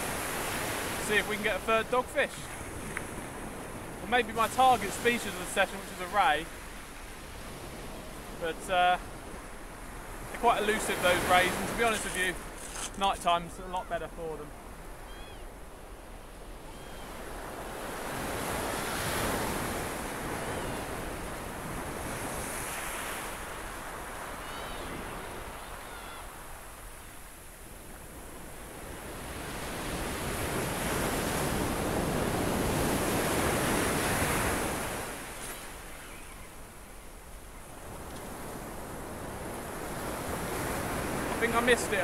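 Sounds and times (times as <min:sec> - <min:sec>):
waves on shingle beach: 0:00.0 - 0:15.7, 0:16.5 - 0:37.0, 0:37.6 - 0:42.0.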